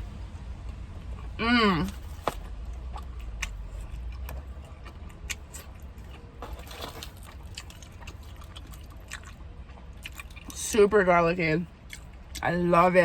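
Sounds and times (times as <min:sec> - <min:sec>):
person chewing pizza: 0:00.0 - 0:10.9, 0:11.6 - 0:13.0
low steady hum: 0:00.0 - 0:13.0.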